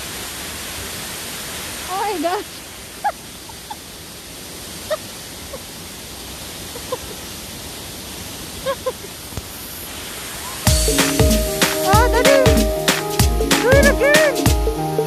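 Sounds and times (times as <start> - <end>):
water rushing hiss: 0.0 - 15.0.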